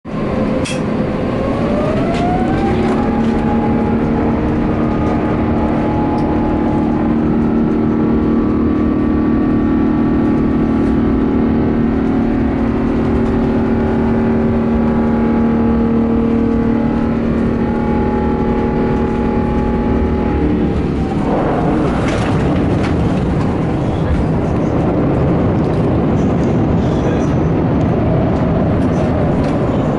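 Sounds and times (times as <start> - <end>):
jet engines droning in cabin: 0.0 - 29.9.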